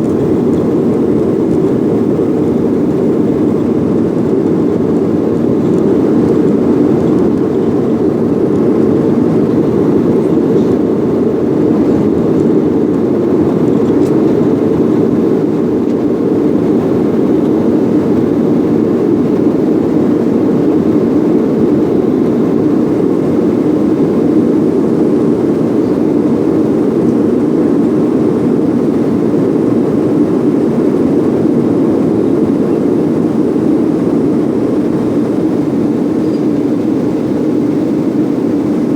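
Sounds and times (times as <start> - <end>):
jet cabin engine and airflow noise: 0.0 - 38.9.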